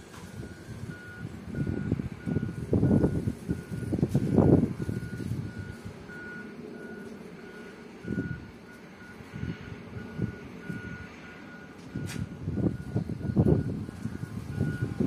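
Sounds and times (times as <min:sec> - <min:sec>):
low rumbling: 0:00.0 - 0:15.0
reversing alarm beeping: 0:00.1 - 0:15.0.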